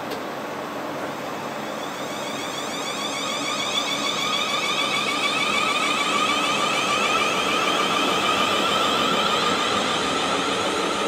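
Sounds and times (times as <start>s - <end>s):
train wheels rolling on rails: 0.0s - 11.0s
electric train traction whine: 0.5s - 11.0s.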